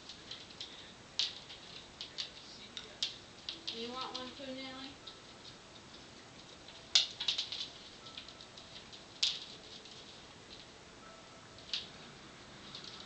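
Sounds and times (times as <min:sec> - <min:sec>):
claws skittering on floor: 0:00.0 - 0:10.7.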